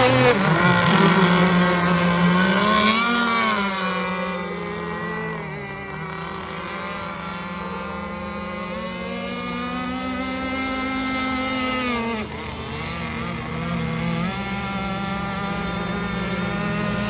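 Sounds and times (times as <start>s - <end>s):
rc boat engine at high speed: 0.0s - 17.0s.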